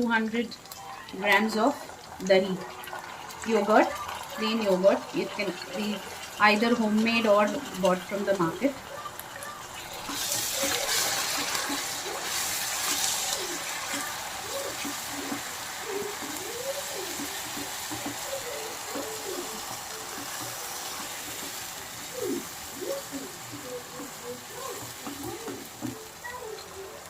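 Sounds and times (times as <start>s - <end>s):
onions and garlic sizzling in oil: 0.0s - 27.0s.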